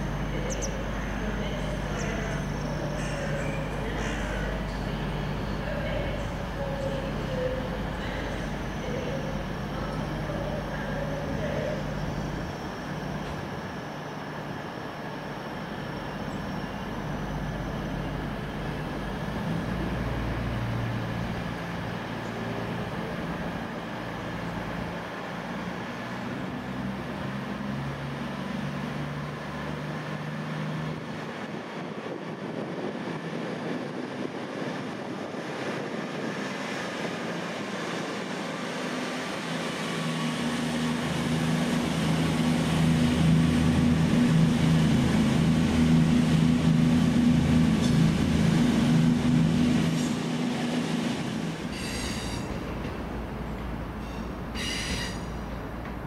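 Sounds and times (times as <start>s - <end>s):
train engine drone: 0.0s - 56.0s.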